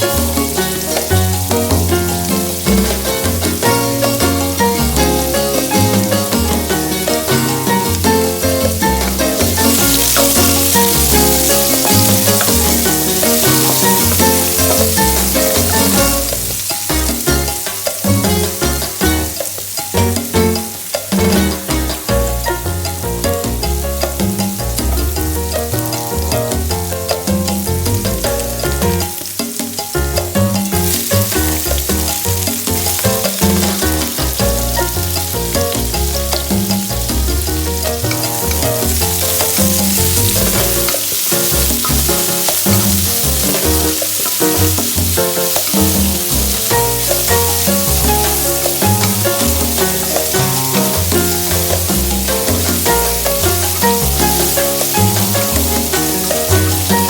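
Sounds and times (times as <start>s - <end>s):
background music: 0.0s - 57.0s
food sizzling in a pan: 0.0s - 57.0s.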